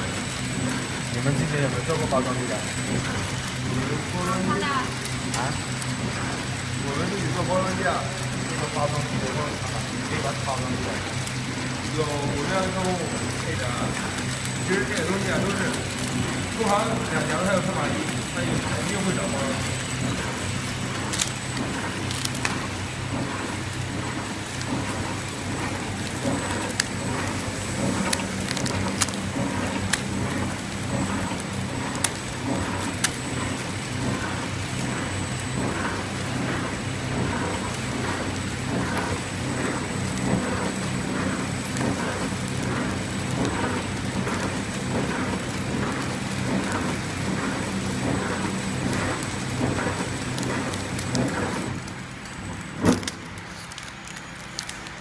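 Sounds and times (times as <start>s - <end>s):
packaging machine humming: 0.0s - 55.0s.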